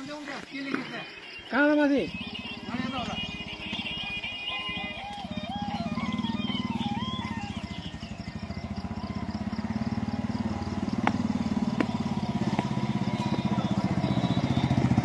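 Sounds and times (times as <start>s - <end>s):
vehicle engine running: 0.1s - 15.0s.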